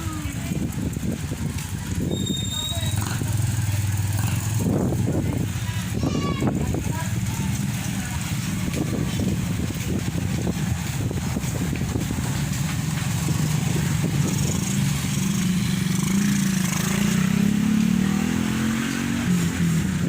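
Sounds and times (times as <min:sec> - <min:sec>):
vehicle engine accelerating: 0:00.0 - 0:05.9, 0:06.7 - 0:20.0.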